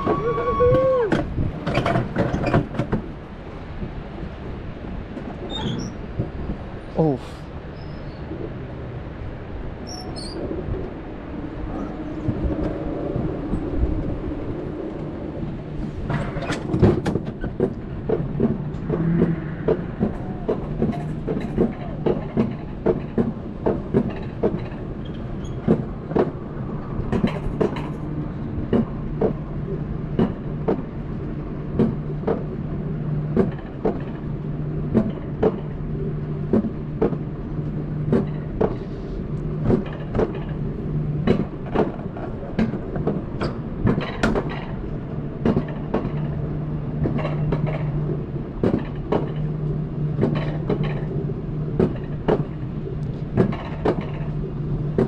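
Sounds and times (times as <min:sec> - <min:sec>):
wheels clacking over track joints: 0:00.0 - 0:04.4, 0:11.9 - 0:55.0
sled wheels rumbling on track: 0:00.0 - 0:55.0.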